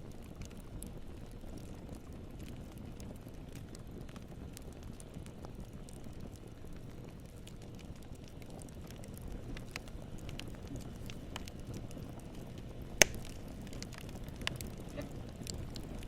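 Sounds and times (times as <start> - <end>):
low rumble of flames: 0.0 - 16.0
wood crackles and pops: 0.0 - 16.0.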